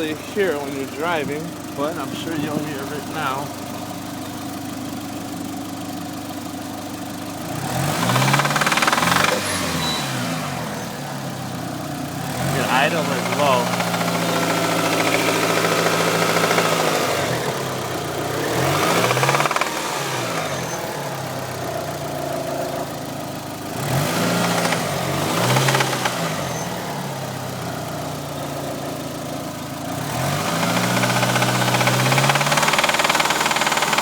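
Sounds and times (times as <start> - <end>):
engine knocking: 0.0 - 9.9, 11.4 - 26.6, 27.6 - 34.0
car engine running: 0.0 - 34.0.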